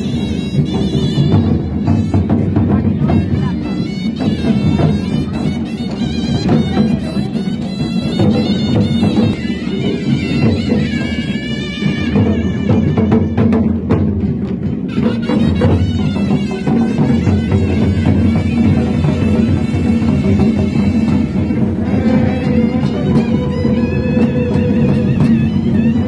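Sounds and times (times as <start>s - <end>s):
reed wind instrument melody: 0.0s - 26.0s
steady drumming: 0.0s - 26.0s.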